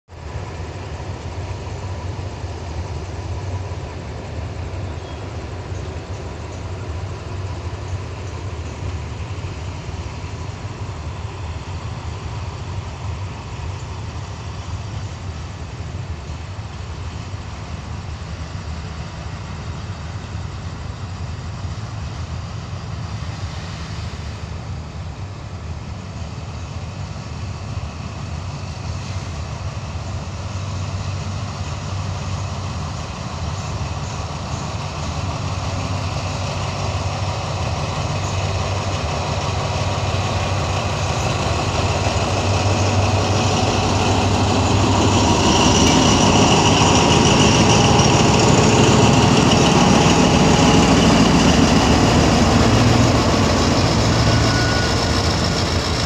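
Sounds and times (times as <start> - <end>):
locomotive low rumble: 0.0 - 56.0.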